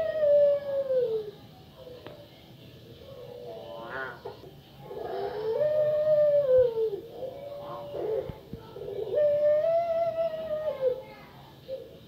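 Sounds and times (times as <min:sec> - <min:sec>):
dove cooing: 0:00.0 - 0:02.0, 0:03.0 - 0:12.0.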